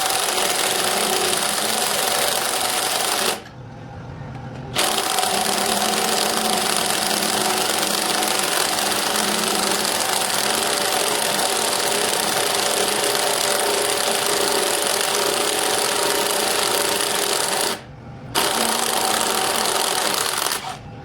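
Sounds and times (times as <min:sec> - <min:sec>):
power tool running: 0:00.0 - 0:03.5, 0:04.8 - 0:17.8, 0:18.4 - 0:20.8.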